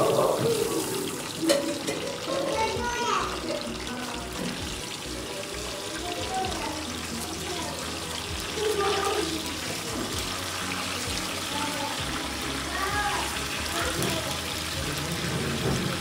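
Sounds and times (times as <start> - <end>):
chicken frying in hot oil: 0.0 - 16.0
spatula turning food in pan: 0.0 - 16.0.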